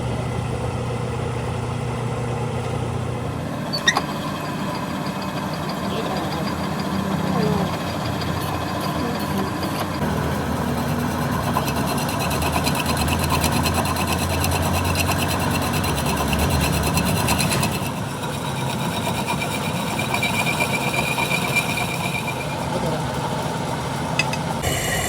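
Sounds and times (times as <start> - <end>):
machine running: 4.0 - 25.0.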